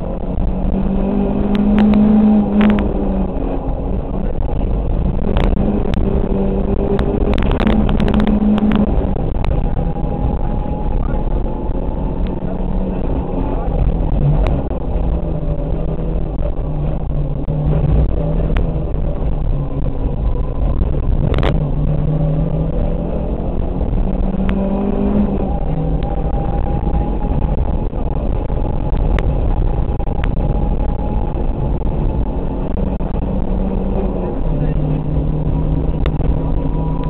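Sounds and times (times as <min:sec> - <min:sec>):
rally car engine revving: 0:00.0 - 0:37.0
road and tyre noise: 0:00.0 - 0:37.0.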